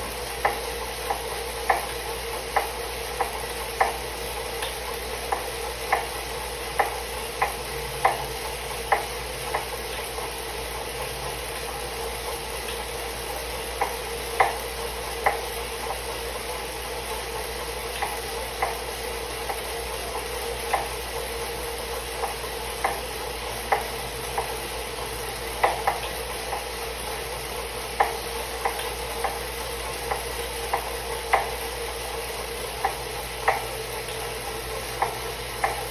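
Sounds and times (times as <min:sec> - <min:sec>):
bike trainer humming: 0:00.0 - 0:35.9.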